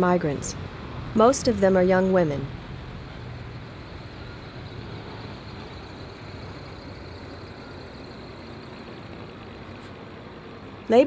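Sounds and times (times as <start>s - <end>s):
street noise: 0.0s - 11.0s
traffic engine rumble: 0.0s - 11.0s.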